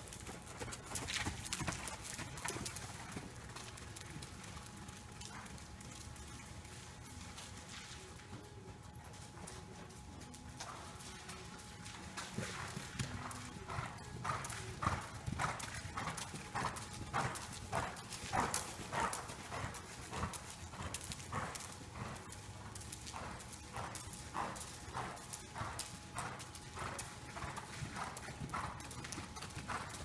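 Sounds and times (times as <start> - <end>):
muffled horse hoofbeats: 0.0 - 30.0.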